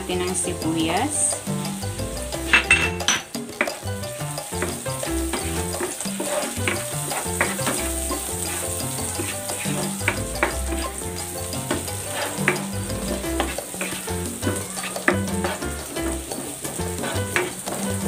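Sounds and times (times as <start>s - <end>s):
background music: 0.0s - 18.0s
onions sizzling in a pan: 0.0s - 18.0s
spatula scraping a pan: 1.6s - 18.0s.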